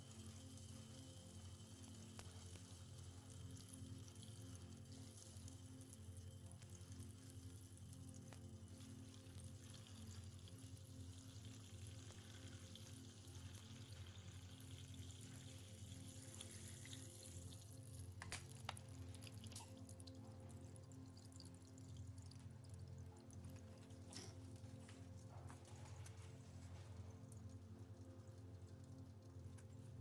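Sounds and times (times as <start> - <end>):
ambient background music: 0.0 - 30.0.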